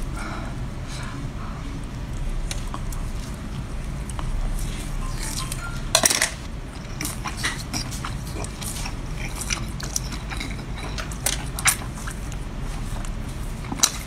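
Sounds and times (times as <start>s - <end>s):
person chewing crunchy food: 1.8s - 14.0s.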